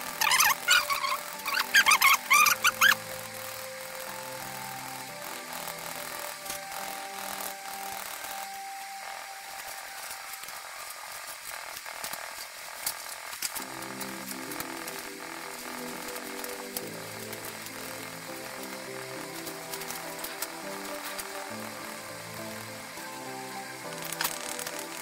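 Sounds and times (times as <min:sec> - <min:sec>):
background music: 0:00.0 - 0:12.7, 0:13.3 - 0:25.0.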